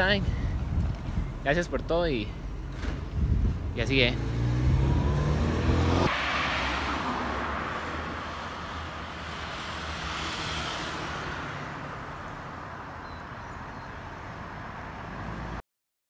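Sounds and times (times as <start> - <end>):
passing cars: 0.0 - 15.6.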